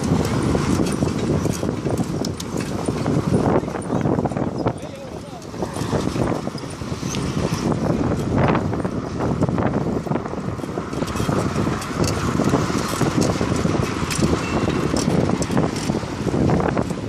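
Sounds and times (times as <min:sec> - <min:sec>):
small clicks and rattles: 0:00.0 - 0:08.4, 0:10.6 - 0:17.0
tyres rumbling on road: 0:00.0 - 0:17.0
wind buffeting microphone: 0:00.0 - 0:17.0.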